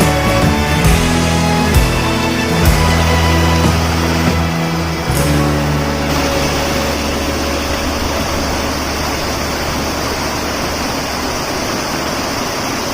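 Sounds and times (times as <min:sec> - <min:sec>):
low hum: 0:00.0 - 0:12.5
steady rushing noise: 0:00.0 - 0:12.9.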